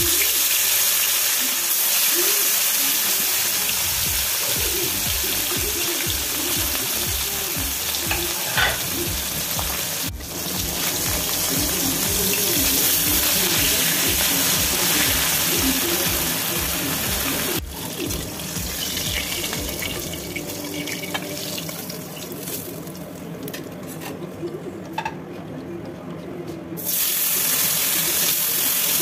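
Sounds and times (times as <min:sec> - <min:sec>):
fish sizzling in hot oil: 0:00.0 - 0:22.9, 0:26.8 - 0:29.0.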